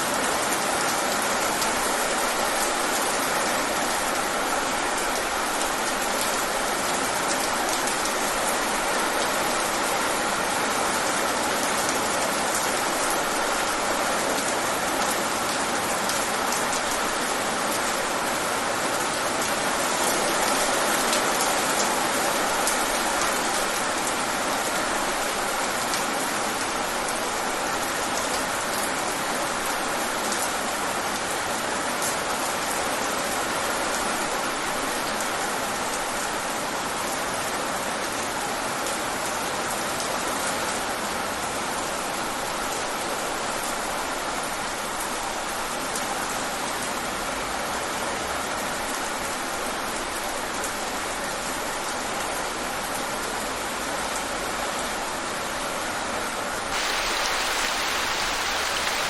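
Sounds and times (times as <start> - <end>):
steady rain on a surface: 0.0 - 59.0.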